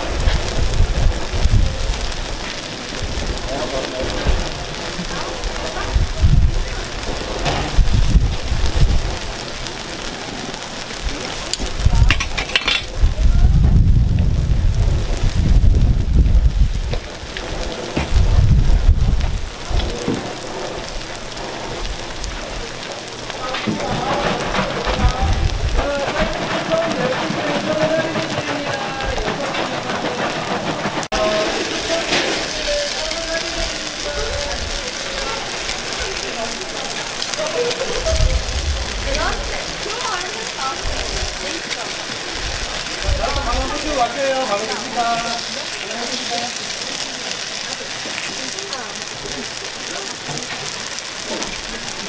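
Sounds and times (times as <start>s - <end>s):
batter sizzling on a griddle: 0.0s - 52.0s
murmur of market voices: 0.0s - 52.0s.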